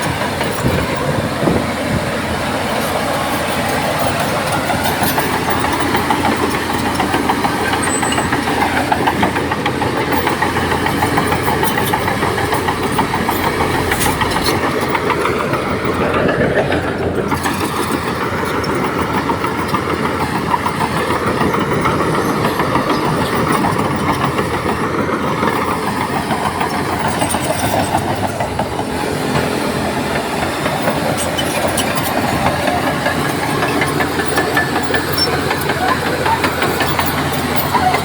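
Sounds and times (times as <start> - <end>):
clatter of steel tracks: 0.0 - 38.0
diesel engine running under load: 0.0 - 38.0.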